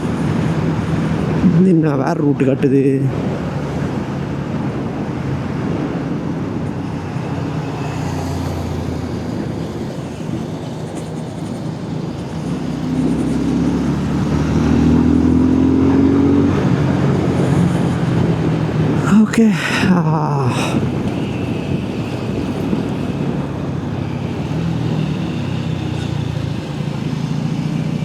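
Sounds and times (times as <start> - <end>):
road and wind noise: 0.0 - 28.0
motorcycle engine running: 3.2 - 19.2, 20.8 - 28.0.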